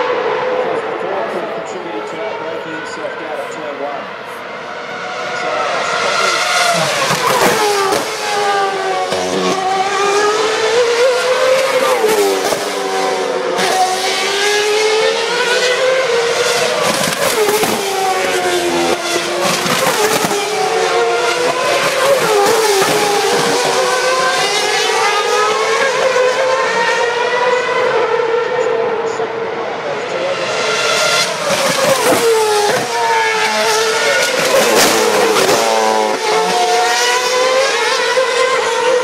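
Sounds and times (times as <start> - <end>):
racing cars passing at high revs: 0.0 - 39.0.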